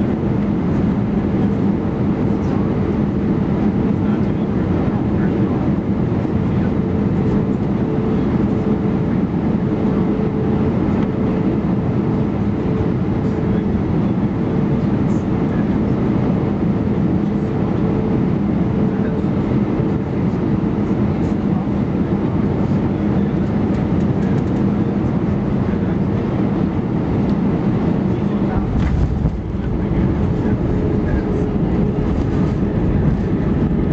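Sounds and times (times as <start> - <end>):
airplane cabin engine rumble: 0.0 - 33.9.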